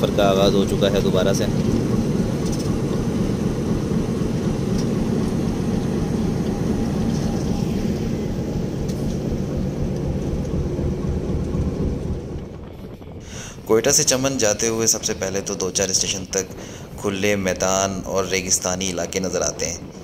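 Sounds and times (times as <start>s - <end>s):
diesel locomotive engine rumbling: 0.0s - 20.0s.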